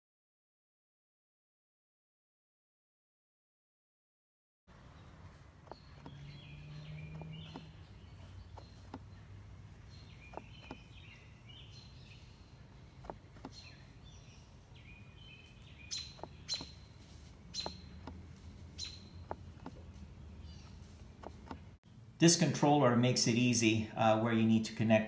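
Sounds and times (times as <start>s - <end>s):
faint birds chirping: 4.7s - 25.0s.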